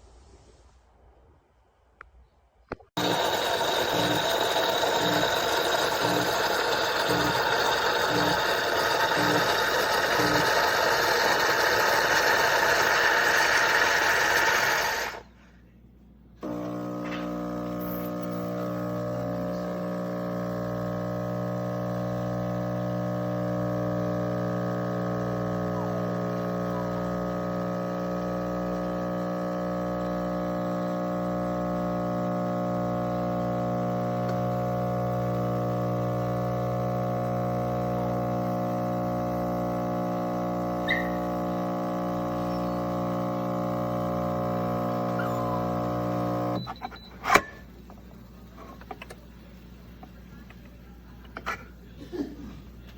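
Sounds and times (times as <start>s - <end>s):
espresso machine pump buzzing: 3.0s - 15.2s, 16.4s - 51.6s.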